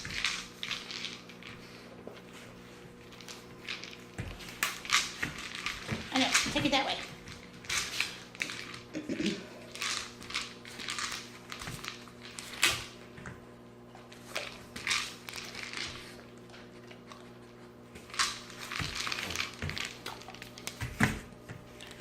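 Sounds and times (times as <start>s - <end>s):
puppy crunching kibble: 0.0s - 13.0s, 14.0s - 22.0s.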